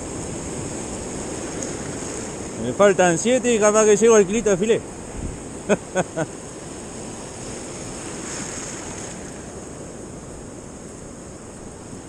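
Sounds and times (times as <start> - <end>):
breaking waves: 0.0 - 10.3.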